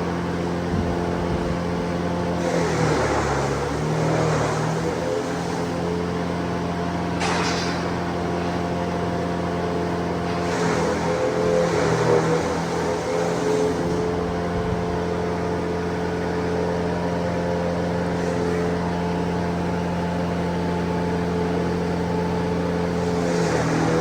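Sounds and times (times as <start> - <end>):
motor humming steadily: 0.0 - 24.0.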